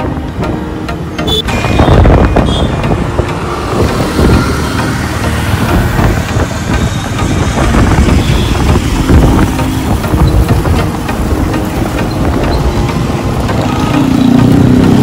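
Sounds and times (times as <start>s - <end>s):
vehicle road noise: 0.0s - 15.0s
engine sound: 2.9s - 15.0s.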